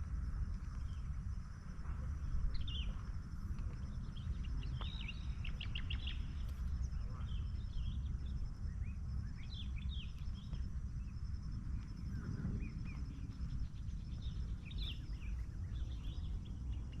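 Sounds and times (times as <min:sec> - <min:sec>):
deep rumble: 0:00.0 - 0:17.0
small birds chirping: 0:00.6 - 0:11.2, 0:11.8 - 0:17.0.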